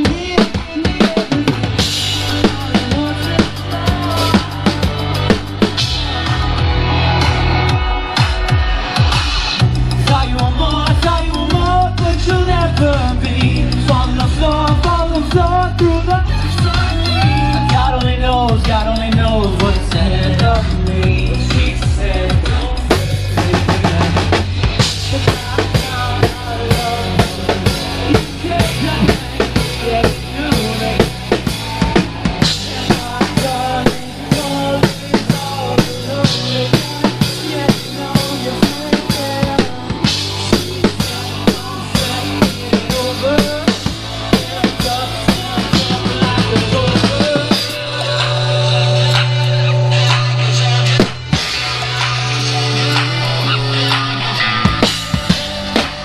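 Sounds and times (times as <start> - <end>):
drum kit beat: 0.0 - 56.0
live band playing: 0.0 - 56.0.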